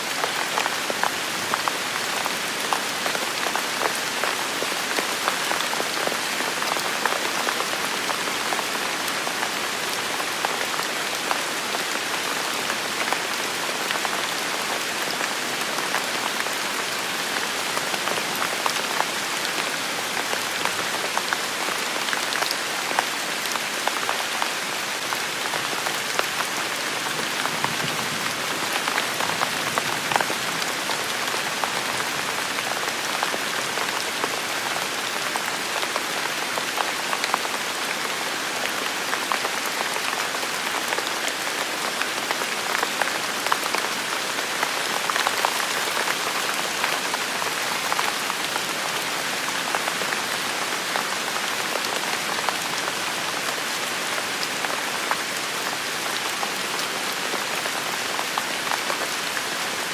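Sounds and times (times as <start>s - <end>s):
rain on hard surface: 0.0s - 59.9s.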